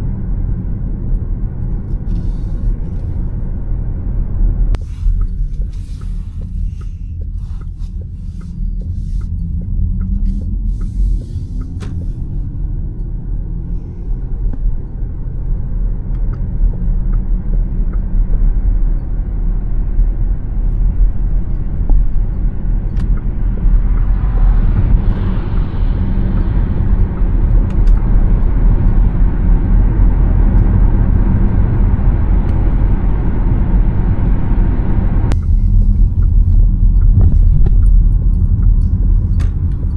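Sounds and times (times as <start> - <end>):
tyre and wind road noise: 0.0 - 39.9.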